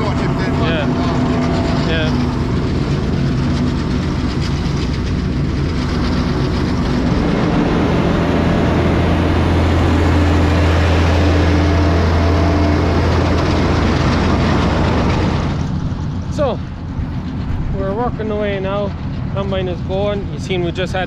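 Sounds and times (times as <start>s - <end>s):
tractor engine drone: 0.0s - 21.0s.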